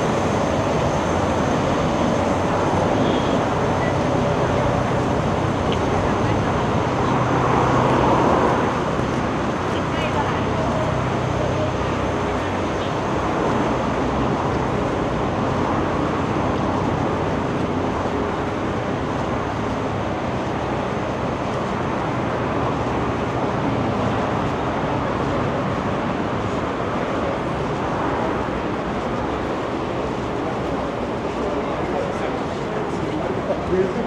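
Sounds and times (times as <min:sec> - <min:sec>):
busy city street ambience: 0:00.0 - 0:34.0.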